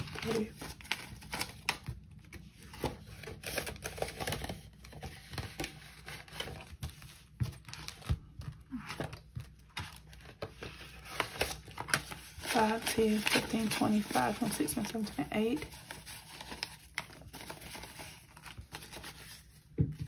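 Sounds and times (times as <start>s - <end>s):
paper banknotes rustling: 0.0s - 19.8s.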